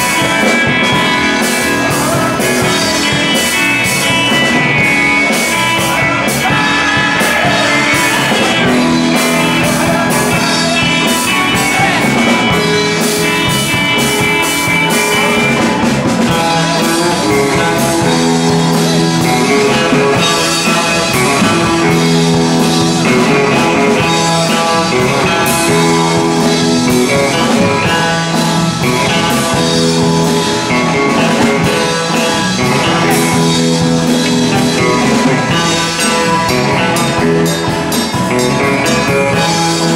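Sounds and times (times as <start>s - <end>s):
live rock band playing: 0.0s - 39.9s
man singing: 0.0s - 39.9s.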